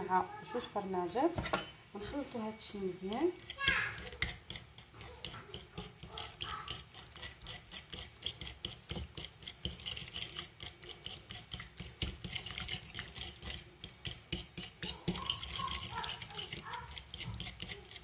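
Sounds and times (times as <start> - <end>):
utensil scraping a glass bowl: 3.1 - 18.0.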